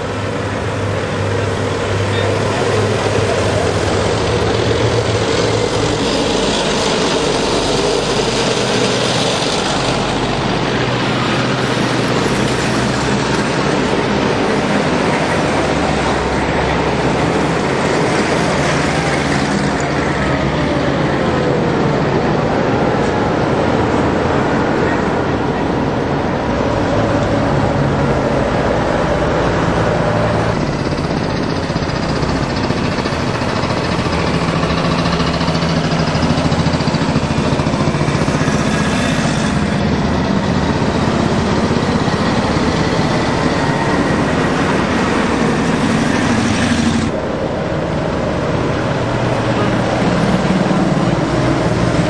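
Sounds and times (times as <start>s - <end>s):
military vehicles driving past: 0.0s - 52.0s.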